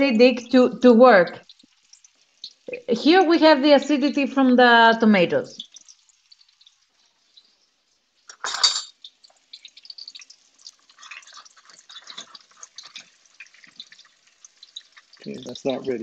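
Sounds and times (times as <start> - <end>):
fritters frying in oil: 0.0 - 16.0
oil crackling and popping: 0.0 - 16.0.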